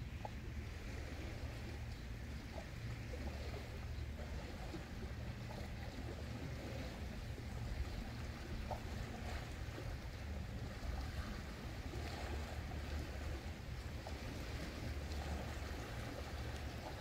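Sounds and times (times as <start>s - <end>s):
small waves lapping rocks: 0.0s - 17.0s.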